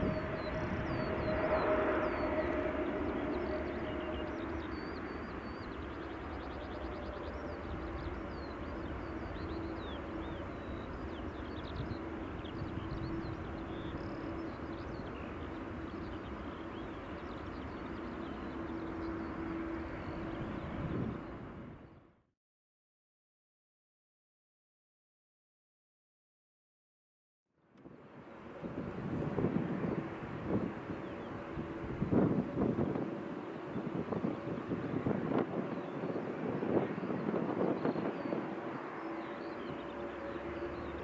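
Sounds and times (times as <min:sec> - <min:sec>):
jet engines running: 0:00.0 - 0:22.0, 0:27.8 - 0:41.0.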